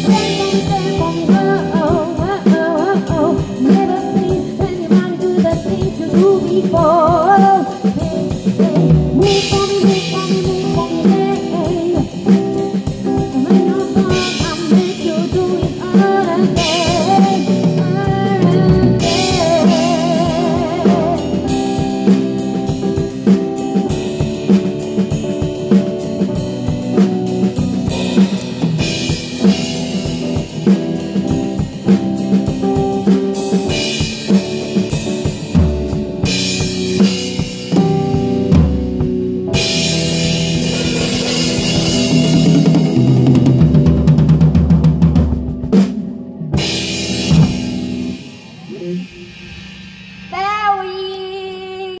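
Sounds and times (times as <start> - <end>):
driving drum beat: 0.0 - 52.0
live pop band playing: 0.0 - 52.0.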